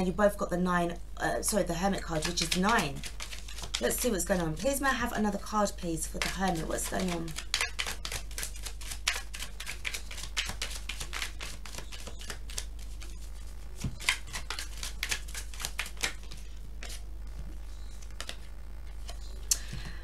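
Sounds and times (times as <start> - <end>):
low steady hum: 0.0 - 20.0
cards being shuffled: 2.0 - 5.1, 6.0 - 19.4.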